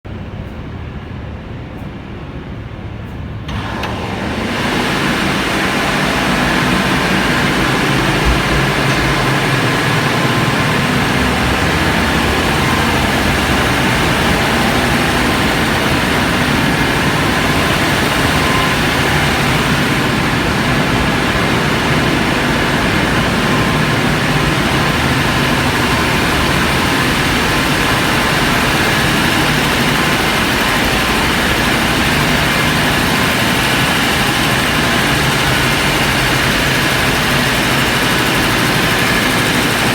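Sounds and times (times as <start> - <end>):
ship engine room machinery running: 0.1 - 39.9.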